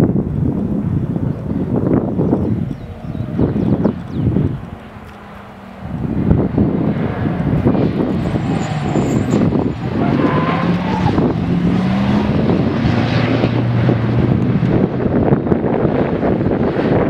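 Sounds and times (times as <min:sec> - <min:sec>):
race car engines running hard: 0:00.0 - 0:17.0
wind buffeting microphone: 0:00.0 - 0:17.0.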